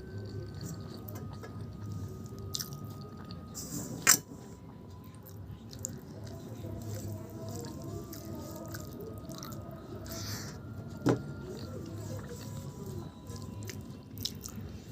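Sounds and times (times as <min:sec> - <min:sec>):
person chewing food: 0:00.0 - 0:04.1, 0:05.0 - 0:10.6, 0:11.5 - 0:14.9.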